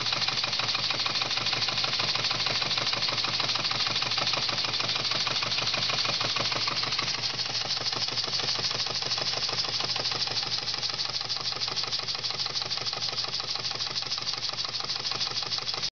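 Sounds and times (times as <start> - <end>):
steam engine chuffing: 0.0 - 15.9.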